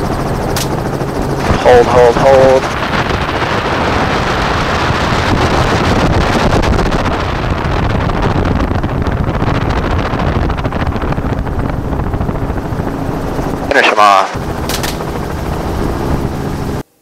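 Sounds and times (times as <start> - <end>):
wind rushing over microphone: 0.0 - 16.8
helicopter rotor and engine: 0.0 - 17.0.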